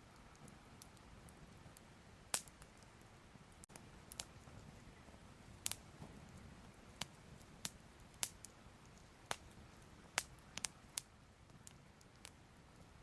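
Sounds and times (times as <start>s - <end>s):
fire rumbling hiss: 0.0s - 13.0s
fire pops and snaps: 0.1s - 4.6s, 5.5s - 13.0s.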